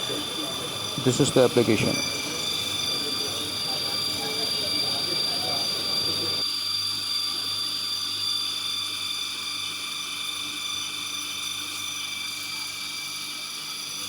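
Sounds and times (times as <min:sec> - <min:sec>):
high-pitched machine whine: 0:00.0 - 0:14.0.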